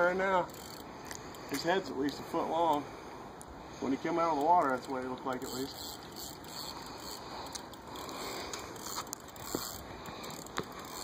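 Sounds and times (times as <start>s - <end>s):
fishing reel scraping: 0.0s - 2.9s, 4.1s - 11.0s
reel clicks: 0.1s - 2.8s, 4.2s - 11.0s.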